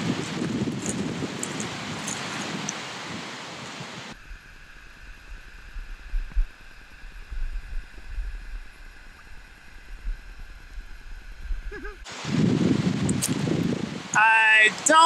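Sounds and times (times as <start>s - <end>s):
wind buffeting microphone: 0.0s - 4.5s, 5.1s - 14.2s.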